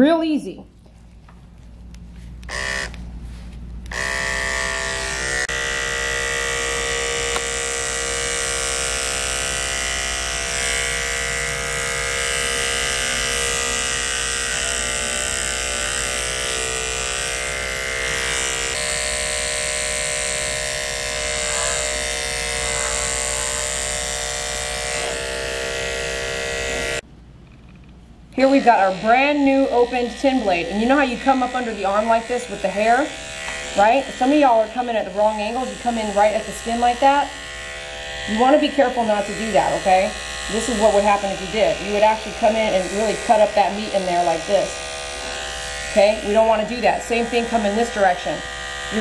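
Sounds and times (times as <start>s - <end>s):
electric clipper humming: 2.4s - 3.1s, 3.8s - 27.0s, 28.4s - 49.0s.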